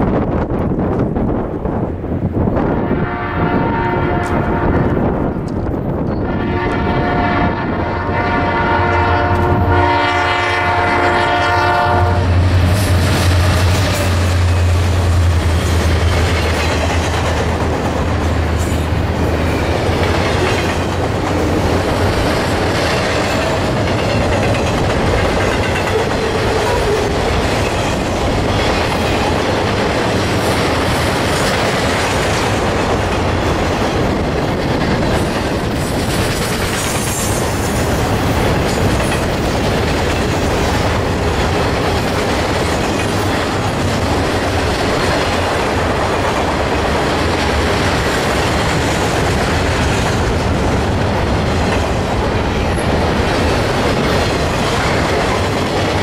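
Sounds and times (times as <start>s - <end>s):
freight train rolling past: 0.0s - 56.0s
wheels clacking over rail joints: 9.3s - 56.0s.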